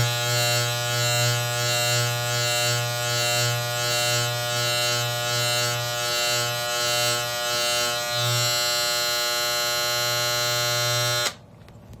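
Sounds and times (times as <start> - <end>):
electric hair clippers buzzing: 0.0 - 11.4.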